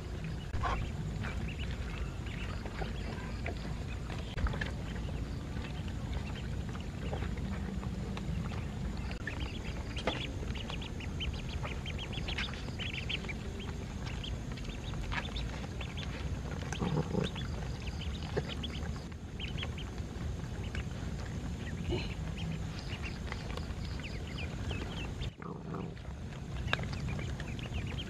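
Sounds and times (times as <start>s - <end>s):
ducklings peeping: 0.0s - 28.0s
low background noise: 0.0s - 28.0s.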